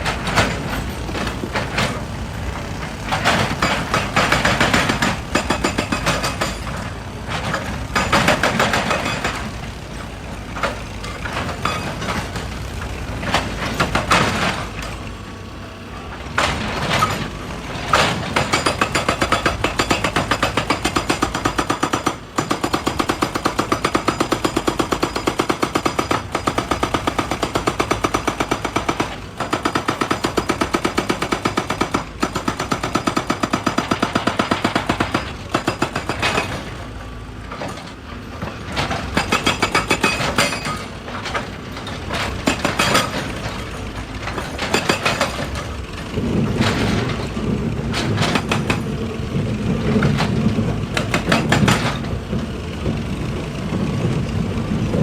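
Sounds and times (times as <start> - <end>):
hydraulic breaker hammering rock: 0.0 - 55.0.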